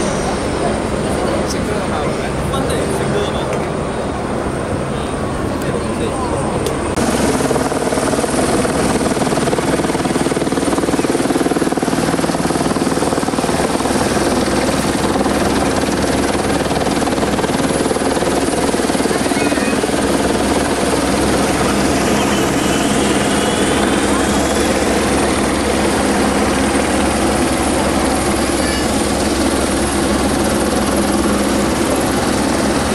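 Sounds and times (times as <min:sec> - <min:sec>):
steady mechanical drone: 0:00.0 - 0:32.9.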